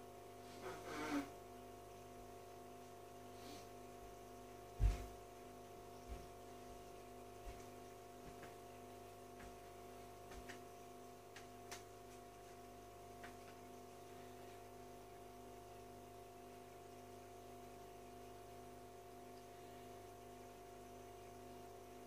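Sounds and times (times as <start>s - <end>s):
aquarium filter hum: 0.0s - 22.0s.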